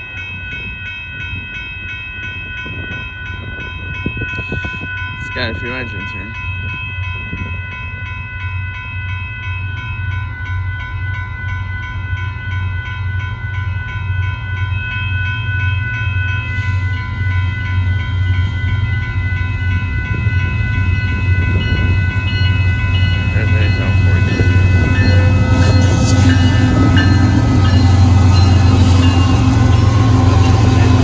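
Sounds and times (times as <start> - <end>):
railroad crossing bell ringing: 0.0 - 31.0
diesel locomotive rumble: 0.1 - 31.0.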